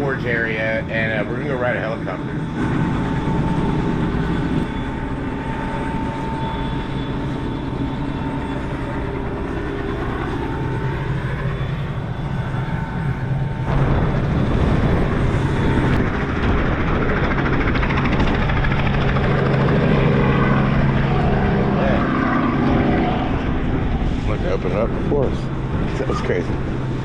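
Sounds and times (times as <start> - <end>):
helicopter engine and rotor: 0.0 - 27.0.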